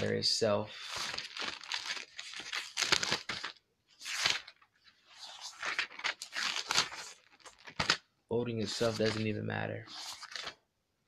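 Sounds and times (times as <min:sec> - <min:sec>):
crinkling and rustling: 0:00.8 - 0:08.0, 0:08.6 - 0:10.6.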